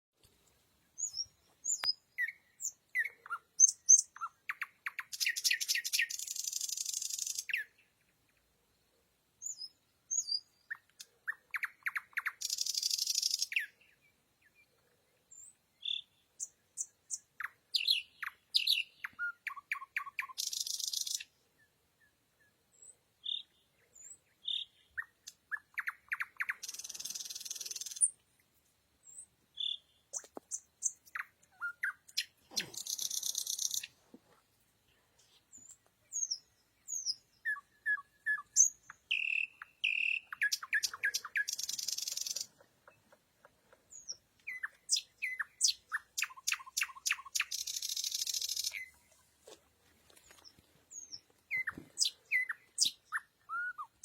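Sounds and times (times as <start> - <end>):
nightingale singing: 0.2 - 8.6, 9.3 - 34.2, 34.9 - 49.3, 50.1 - 54.0.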